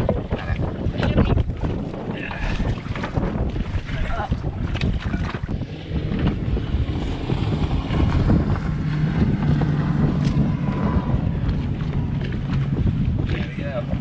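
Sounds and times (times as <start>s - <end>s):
wind buffeting microphone: 0.0s - 14.0s
small boat motor running: 1.0s - 14.0s.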